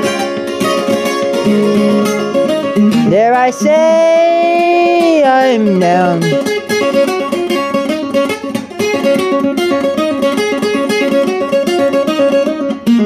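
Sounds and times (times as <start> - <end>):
guitar picking plucked notes: 0.0 - 13.0.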